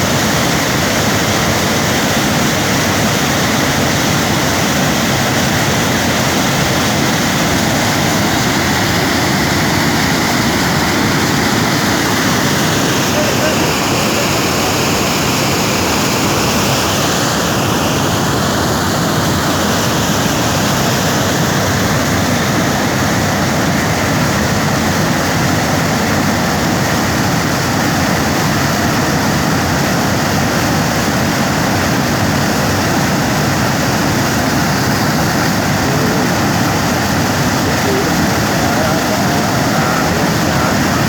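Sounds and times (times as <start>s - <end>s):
water pouring from a dam: 0.0s - 41.0s.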